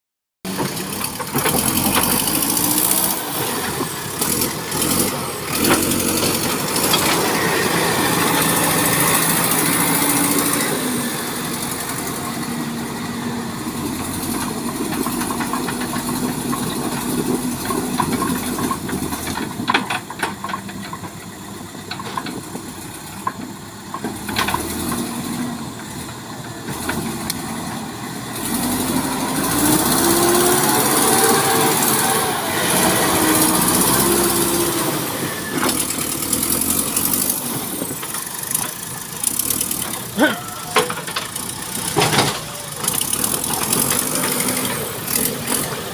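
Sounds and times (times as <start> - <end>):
vehicle engine running: 0.4 - 45.9.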